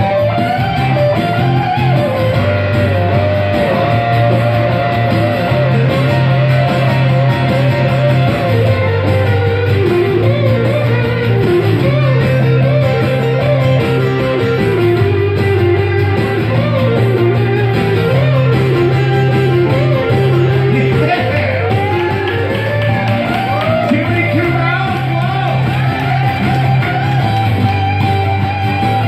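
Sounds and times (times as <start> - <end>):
bass guitar: 0.0 - 29.0
electric guitar lead with bent notes: 0.0 - 29.0
guitar chords: 0.0 - 29.0.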